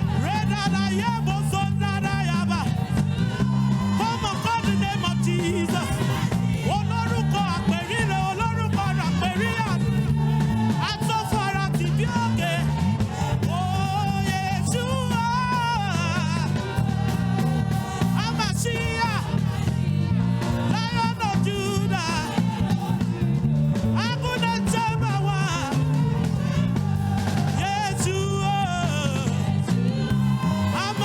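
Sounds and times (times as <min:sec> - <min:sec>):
worship band playing: 0:00.0 - 0:31.0.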